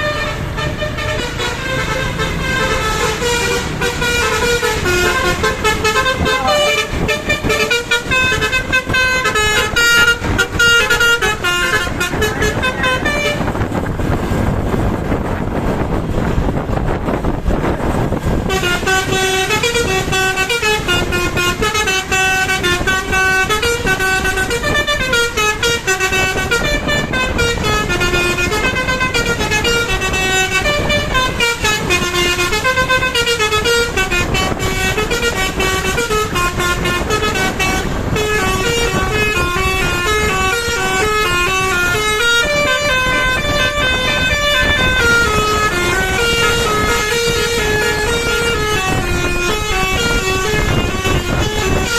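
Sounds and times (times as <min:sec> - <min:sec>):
bus horn playing a tune: 0:00.0 - 0:51.9.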